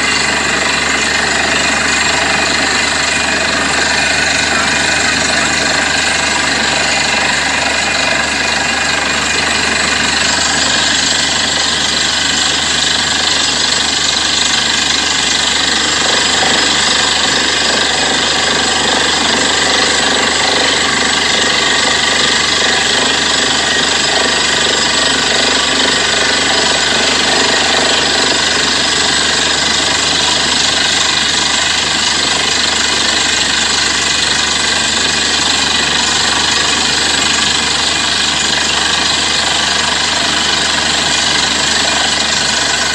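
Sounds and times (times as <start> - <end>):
drilling rig running: 0.0 - 42.9.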